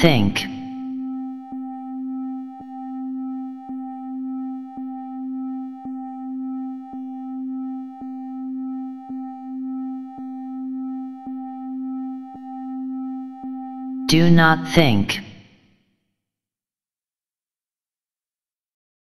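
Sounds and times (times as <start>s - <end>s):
steady electronic tone: 0.0s - 15.5s.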